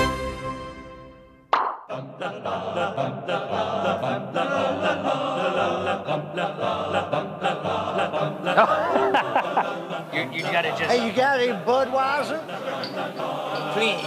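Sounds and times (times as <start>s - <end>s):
voices singing a chant: 1.9s - 14.0s.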